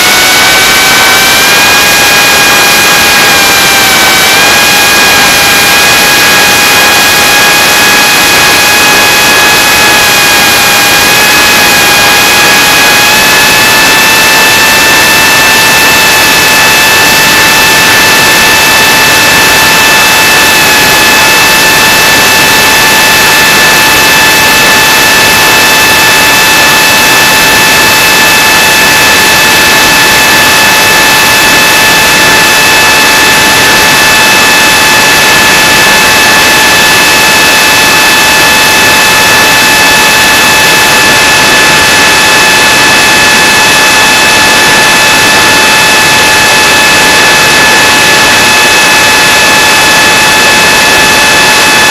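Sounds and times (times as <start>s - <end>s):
high motor whine: 0.0s - 51.9s.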